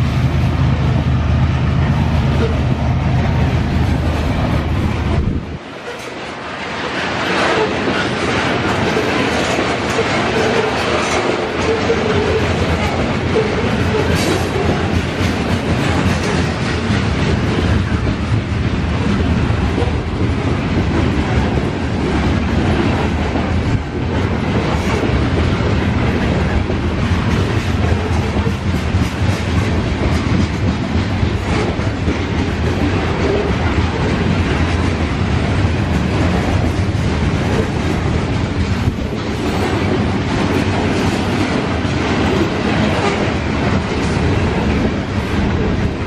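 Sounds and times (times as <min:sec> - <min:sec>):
freight train wheels on rails: 0:00.0 - 0:46.0.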